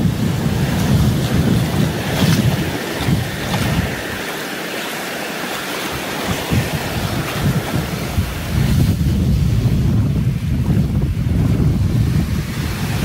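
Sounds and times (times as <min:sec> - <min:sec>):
small waves washing: 0:00.0 - 0:13.0
wind buffeting microphone: 0:00.0 - 0:13.0.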